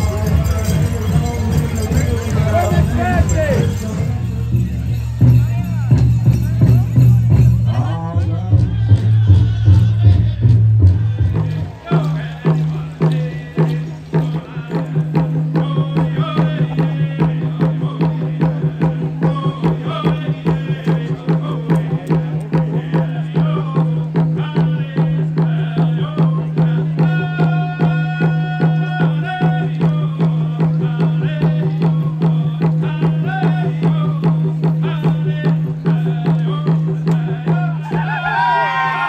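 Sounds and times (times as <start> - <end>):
steady beats on a big drum: 0.0 - 38.0.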